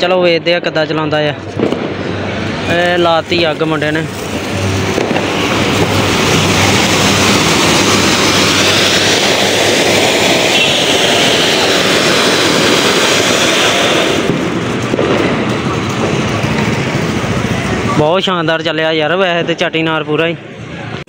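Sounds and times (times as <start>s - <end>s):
firework fountain hissing: 1.4s - 19.9s.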